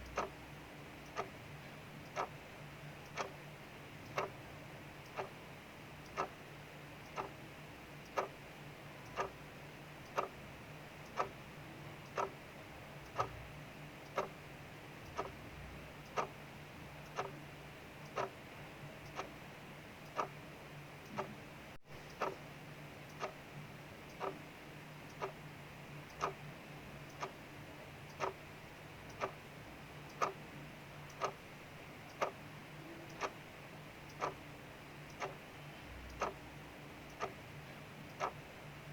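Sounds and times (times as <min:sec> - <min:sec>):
mechanical clock ticking: 0:00.0 - 0:01.4, 0:02.0 - 0:21.4, 0:22.0 - 0:38.6
soft hiss of rain: 0:00.0 - 0:38.9.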